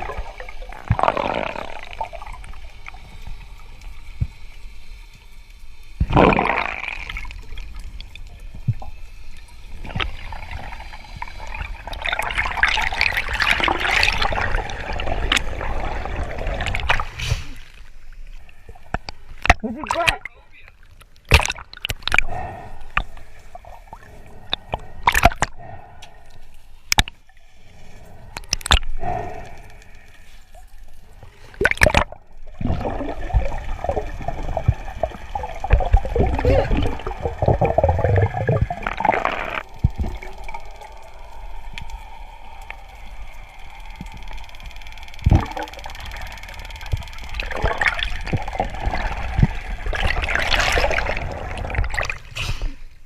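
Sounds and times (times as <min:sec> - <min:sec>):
seawater gurgling and sloshing: 0:00.0 - 0:04.4, 0:06.0 - 0:53.0.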